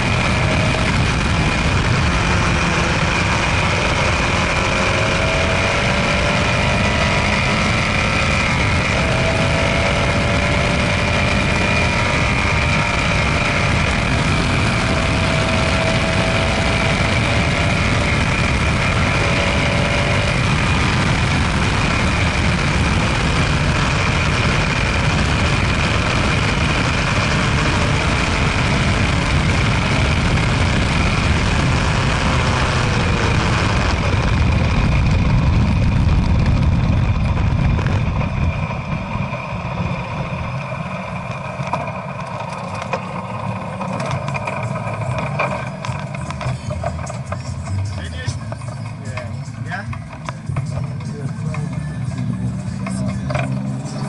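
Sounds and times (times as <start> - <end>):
racing car engine revving: 0.0 - 54.0
wind and road noise: 0.0 - 54.0.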